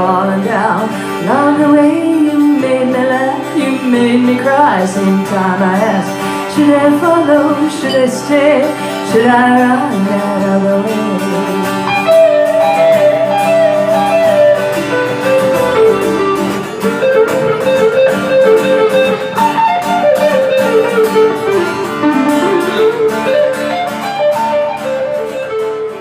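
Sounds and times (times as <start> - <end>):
guitar playing melody over chords: 0.0 - 26.0.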